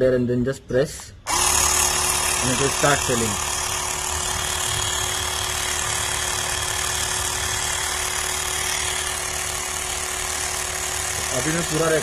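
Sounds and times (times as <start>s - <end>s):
electric tyre inflator humming: 1.3s - 12.0s.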